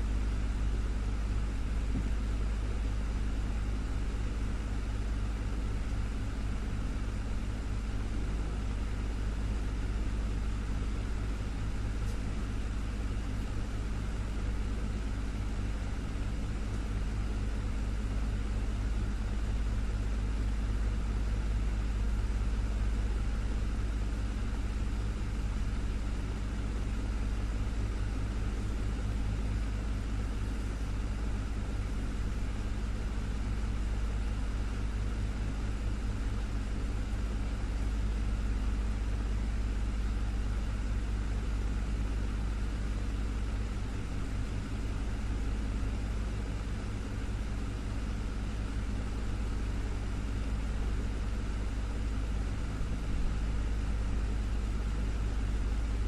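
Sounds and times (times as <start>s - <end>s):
fan motor hum: 0.0s - 56.0s.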